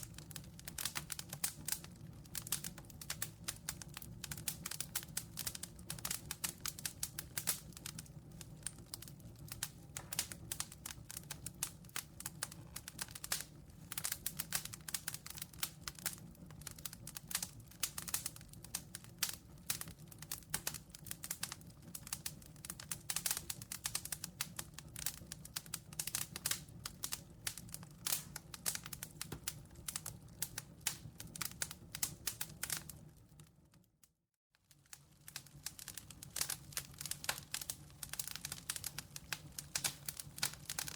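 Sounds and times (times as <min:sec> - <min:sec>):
campfire crackling: 0:00.0 - 0:33.4, 0:34.7 - 0:40.9.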